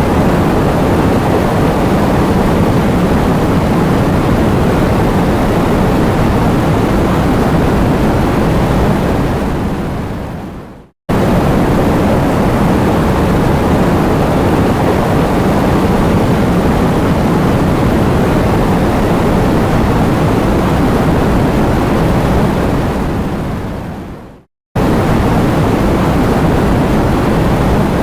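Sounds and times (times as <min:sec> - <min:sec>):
heavy rain and wind: 0:00.0 - 0:28.0.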